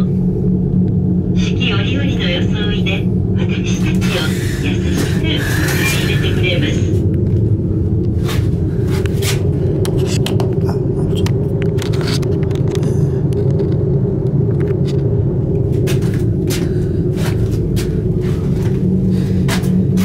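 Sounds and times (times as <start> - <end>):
gondola cabin rumble: 0.0 - 20.0.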